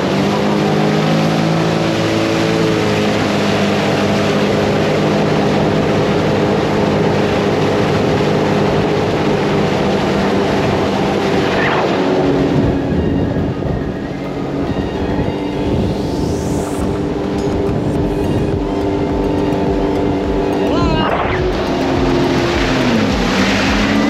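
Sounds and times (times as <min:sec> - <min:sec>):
personal watercraft engine running: 0:00.0 - 0:24.0.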